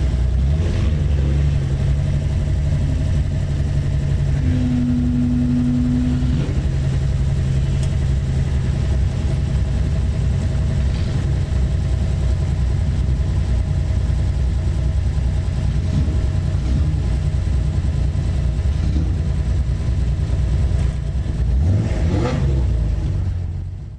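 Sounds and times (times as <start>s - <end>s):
car engine rumbling at low revs: 0.0s - 23.9s.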